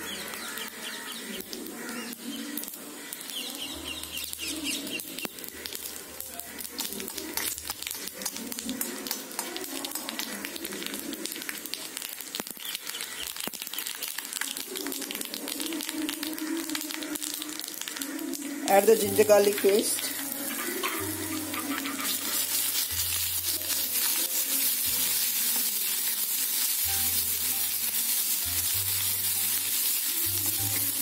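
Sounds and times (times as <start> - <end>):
mustard seeds crackling and popping: 0.0 - 31.0
seeds sizzling in hot oil: 0.0 - 31.0.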